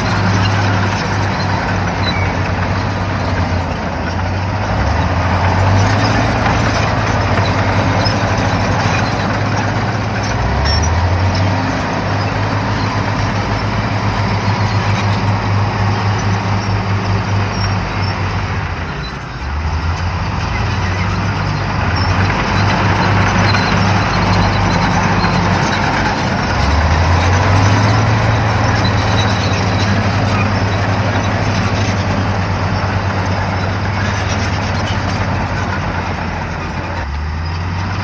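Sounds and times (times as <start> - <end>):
bulldozer diesel engine under load: 0.0 - 38.0.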